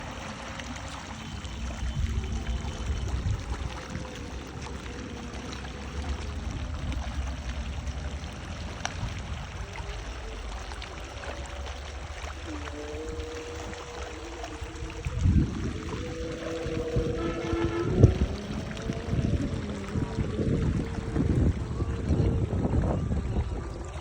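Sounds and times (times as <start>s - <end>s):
low rumble: 0.0s - 24.0s
water running and splashing: 0.0s - 24.0s.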